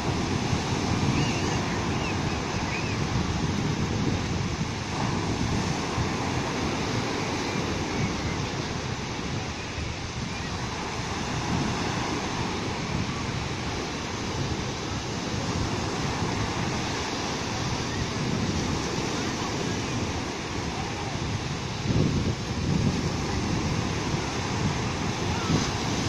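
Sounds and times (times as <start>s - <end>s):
waves breaking on beach: 0.0s - 26.0s.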